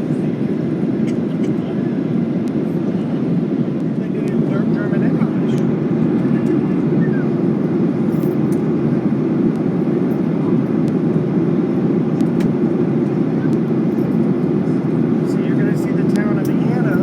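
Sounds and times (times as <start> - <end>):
airliner cabin engine rush: 0.0 - 17.0.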